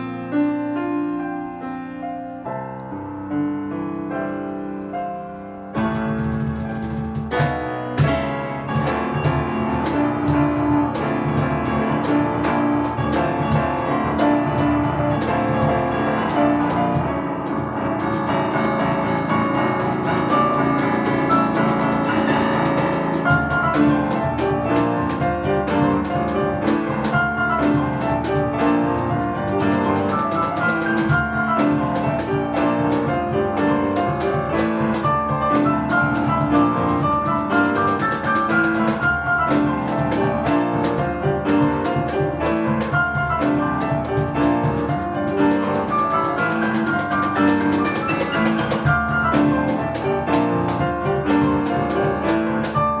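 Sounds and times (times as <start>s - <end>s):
piano playing fast piece: 0.0s - 53.0s
percussion hits: 5.8s - 53.0s.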